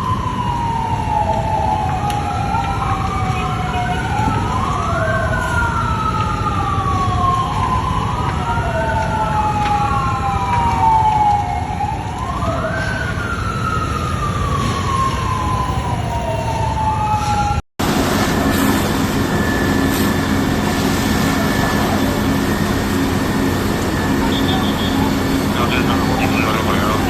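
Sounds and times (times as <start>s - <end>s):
fire engine sirens wailing: 0.0s - 27.0s.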